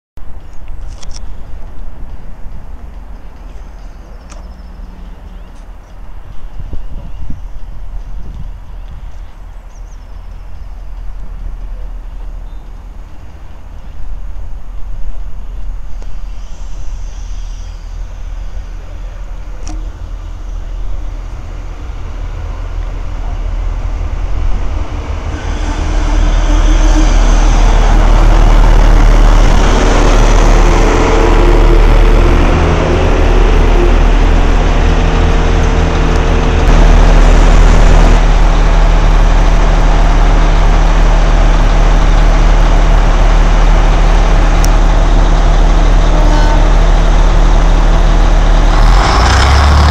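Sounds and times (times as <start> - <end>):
diesel train engines droning: 0.2 - 49.9.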